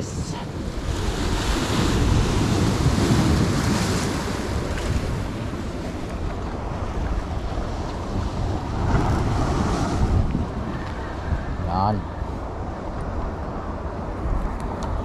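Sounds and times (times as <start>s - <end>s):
surf breaking on rocky shore: 0.0s - 12.0s
wind rumble on microphone: 0.0s - 15.0s.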